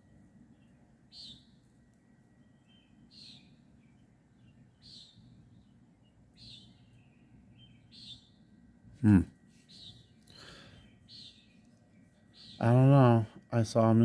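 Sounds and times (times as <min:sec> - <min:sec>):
bird chirping: 0:00.0 - 0:14.0
low background hum: 0:00.0 - 0:14.0.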